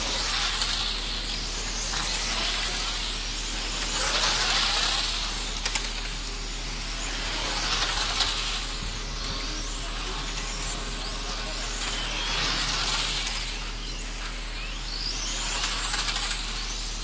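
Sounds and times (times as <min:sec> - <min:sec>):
rc car motor whine: 0:00.0 - 0:17.0.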